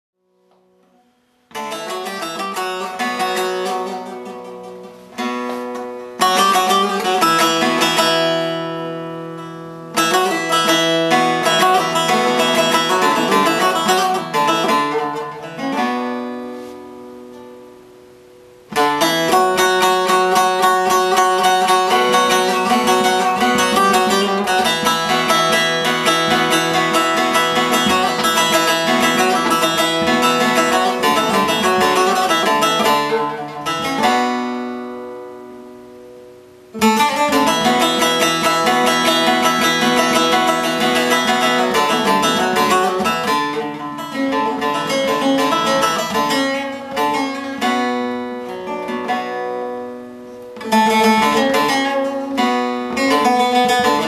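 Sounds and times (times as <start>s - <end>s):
long-necked lute played with pick: 0.3s - 54.0s.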